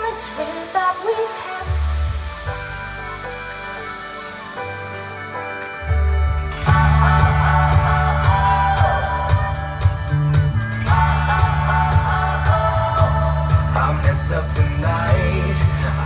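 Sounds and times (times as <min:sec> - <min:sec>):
loud pop-rock music: 0:00.0 - 0:16.0.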